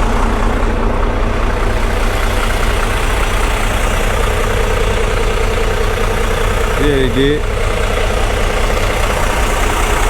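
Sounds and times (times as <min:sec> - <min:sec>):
diesel truck engine rumbling: 0:00.0 - 0:10.0
road noise: 0:00.0 - 0:10.0.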